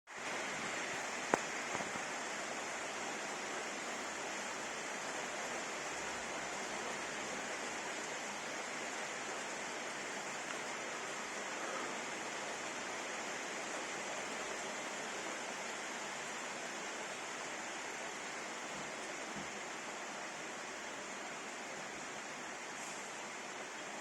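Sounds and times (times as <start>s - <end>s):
steady heavy rain: 0.1s - 24.0s.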